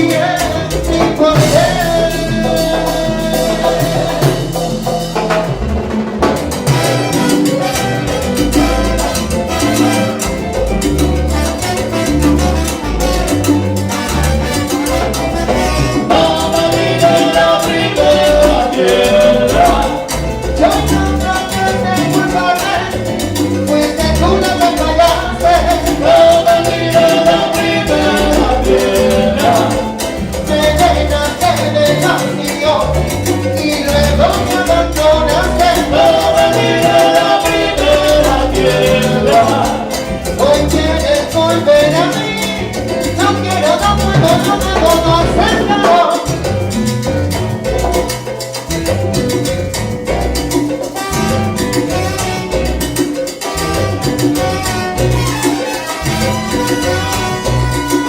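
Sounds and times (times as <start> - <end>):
bass line: 0.0 - 58.0
percussion and drums: 0.0 - 58.0
salsa orchestra instrumental: 0.0 - 58.0.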